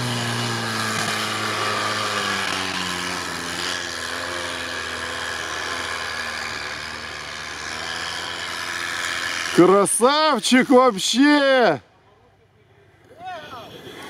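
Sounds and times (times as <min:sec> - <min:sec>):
off-road vehicle engine under load: 0:00.0 - 0:14.0.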